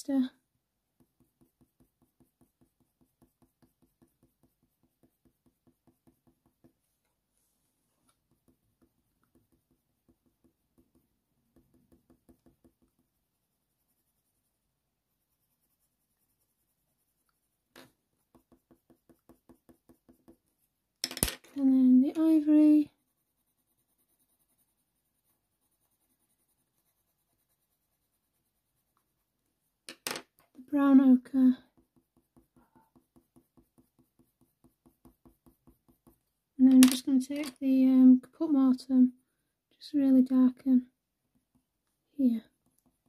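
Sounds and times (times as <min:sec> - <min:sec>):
pencil strokes on paper: 0:00.0 - 0:20.9, 0:21.6 - 0:29.9, 0:30.6 - 0:38.8.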